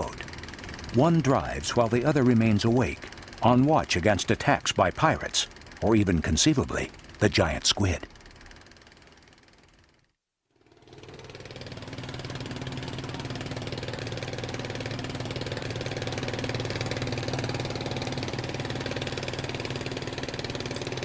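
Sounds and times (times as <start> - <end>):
boat engine chugging: 0.0 - 9.9, 10.7 - 21.0.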